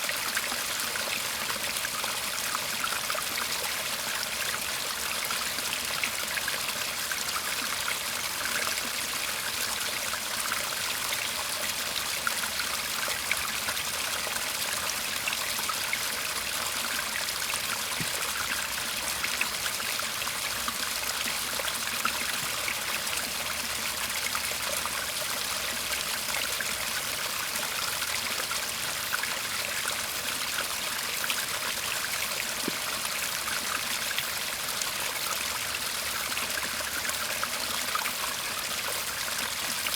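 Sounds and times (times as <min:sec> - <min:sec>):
shallow stream babbling: 0:00.0 - 0:39.9.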